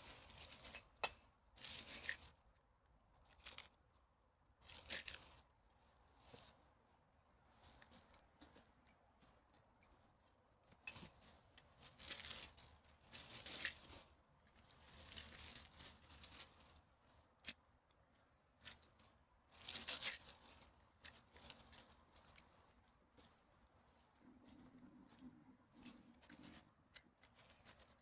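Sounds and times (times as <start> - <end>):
leaf litter rustling: 0.0 - 2.5, 3.2 - 3.8, 4.6 - 9.4, 10.7 - 17.6, 18.6 - 28.0.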